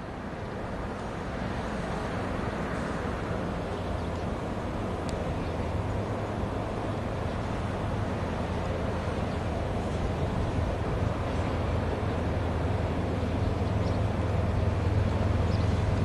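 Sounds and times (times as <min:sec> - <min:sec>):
diesel locomotive engines droning: 0:00.0 - 0:16.0.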